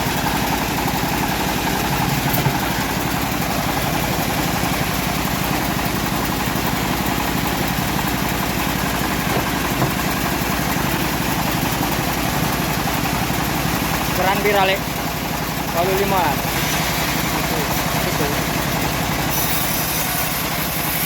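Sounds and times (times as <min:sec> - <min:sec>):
bandsaw mill engine running: 0:00.0 - 0:21.0.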